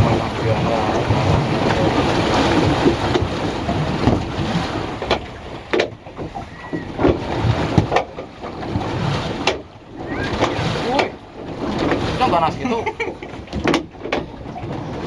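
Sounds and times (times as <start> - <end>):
boat moving on water: 0.0 - 15.0
rush of water: 0.0 - 15.0
wind buffeting microphone: 0.0 - 15.0.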